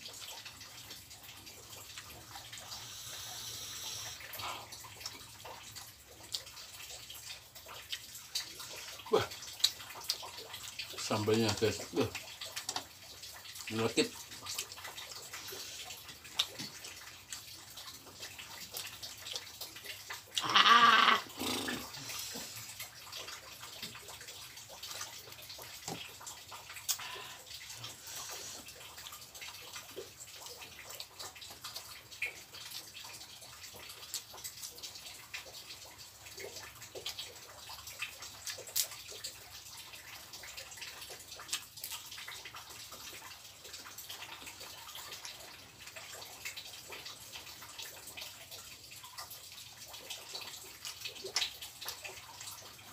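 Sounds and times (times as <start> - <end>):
drizzling rain: 0.0 - 52.9
wet chewing and mouth clicks: 0.1 - 52.9.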